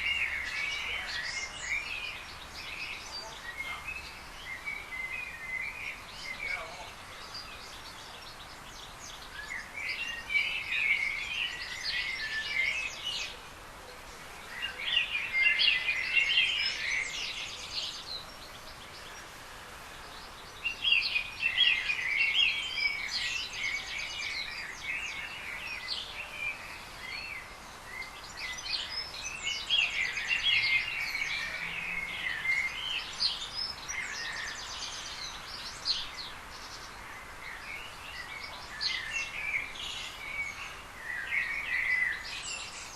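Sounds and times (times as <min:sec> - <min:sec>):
songbird chirps and trills: 0:00.0 - 0:42.9
steady background hiss: 0:00.0 - 0:42.9.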